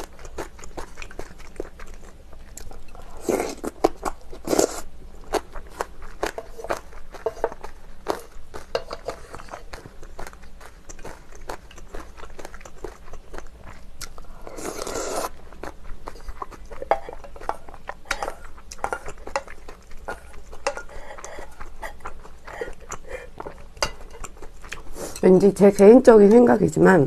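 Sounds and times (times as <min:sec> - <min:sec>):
person chewing and swallowing: 0:00.0 - 0:25.2.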